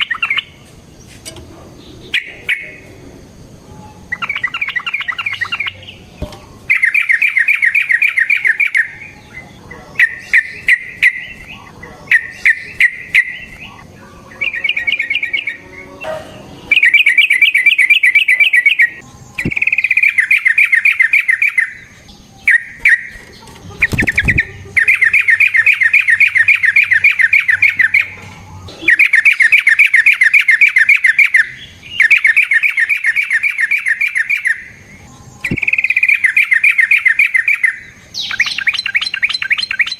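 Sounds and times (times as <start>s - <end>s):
bird singing rolling chatters: 0.0s - 39.9s.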